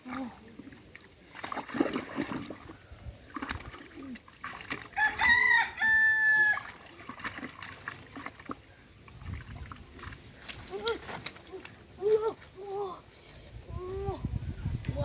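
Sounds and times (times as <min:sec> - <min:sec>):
faint splashing: 0:00.0 - 0:14.2.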